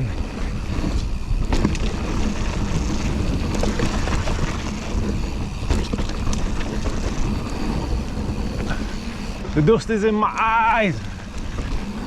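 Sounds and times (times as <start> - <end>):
wind rumble on microphone: 0.0 - 9.9, 10.6 - 12.0
bike clicks and rattles: 0.0 - 12.0
tyre noise on dirt: 0.0 - 12.0.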